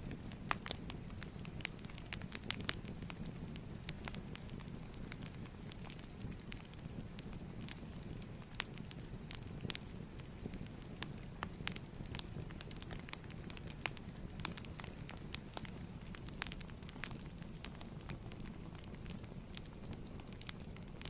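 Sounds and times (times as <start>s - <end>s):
burning wood popping: 0.0s - 21.0s
low rumble of flame: 0.0s - 21.0s.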